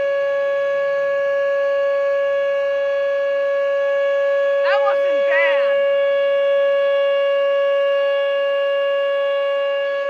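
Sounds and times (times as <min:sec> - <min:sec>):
electronic siren steady tone: 0:00.0 - 0:10.0.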